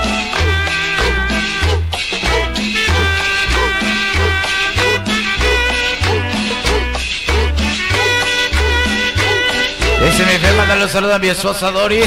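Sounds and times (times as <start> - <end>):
loud cumbia music: 0.0 - 12.0.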